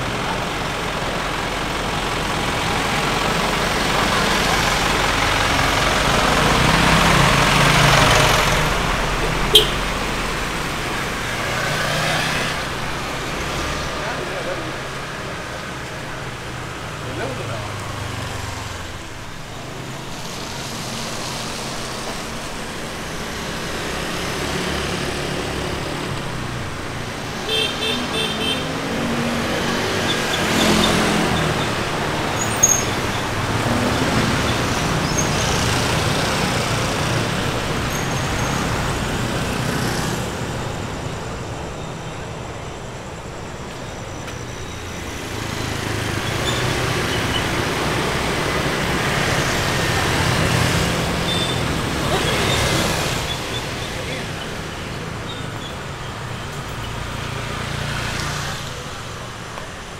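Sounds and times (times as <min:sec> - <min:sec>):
street traffic passing: 0:00.0 - 0:59.9.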